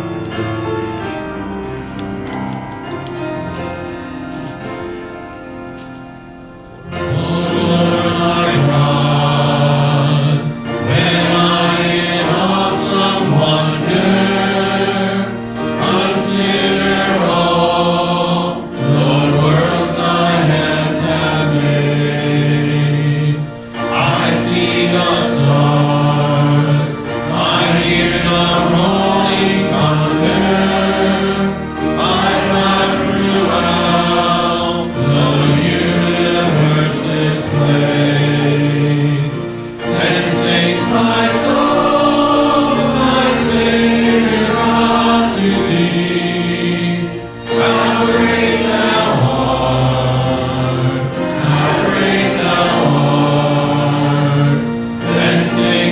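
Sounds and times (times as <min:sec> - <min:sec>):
choir singing a hymn: 0:00.0 - 0:55.9.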